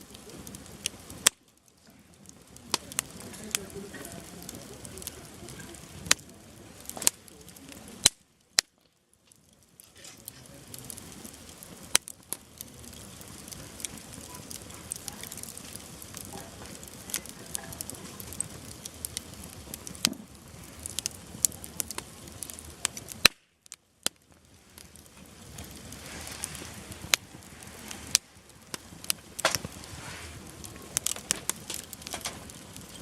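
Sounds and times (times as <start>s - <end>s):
burning wood crackling and popping: 0.0s - 33.0s
campfire flames rushing: 0.0s - 33.0s.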